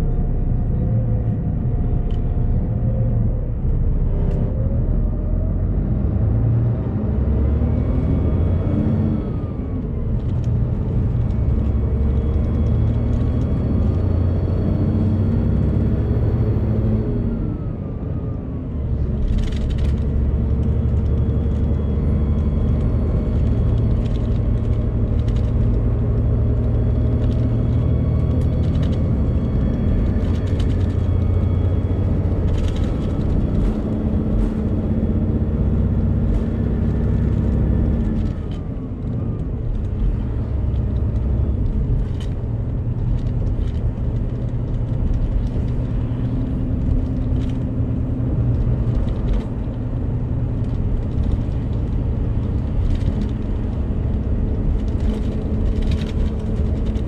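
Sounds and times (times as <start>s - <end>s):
bus diesel engine running: 0.0s - 57.0s
road and tyre noise: 0.0s - 57.0s.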